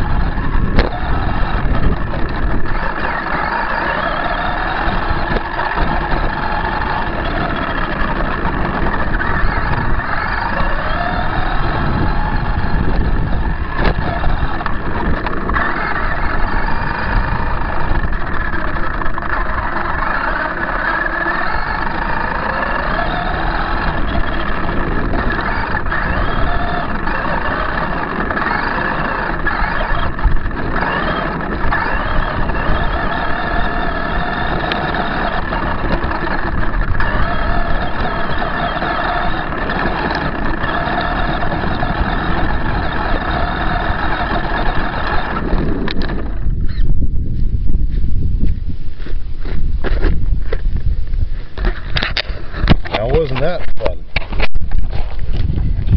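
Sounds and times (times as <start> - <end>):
toy truck motor whine: 0.0 - 47.1
tyres rumbling on gravel: 0.0 - 55.9.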